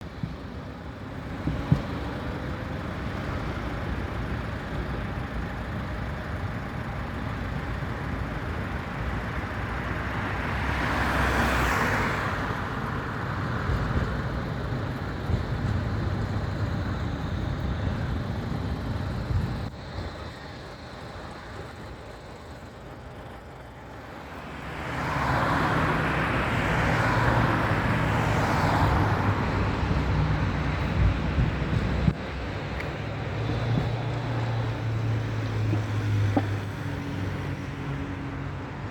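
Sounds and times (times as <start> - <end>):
city street traffic: 0.0 - 38.9.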